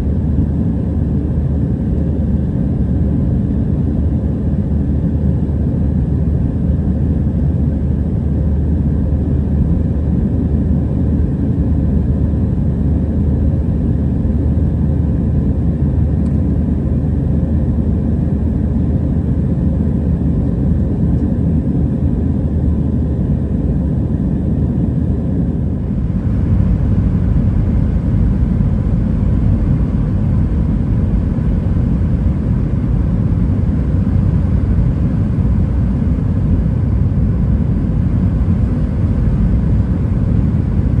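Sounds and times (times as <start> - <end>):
low rumble of engines and airflow: 0.0 - 41.0.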